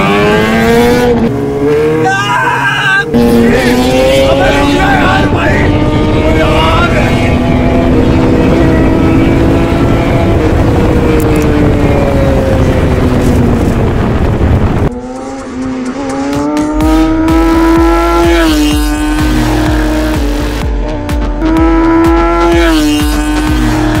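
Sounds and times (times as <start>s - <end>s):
racing engine at full throttle: 0.0s - 24.0s.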